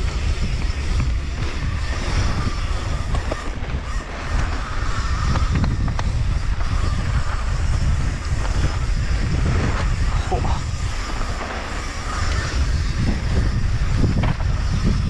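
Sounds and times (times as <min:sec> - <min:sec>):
bike rattling over bumps: 0:00.0 - 0:15.0
wind buffeting microphone: 0:00.0 - 0:15.0.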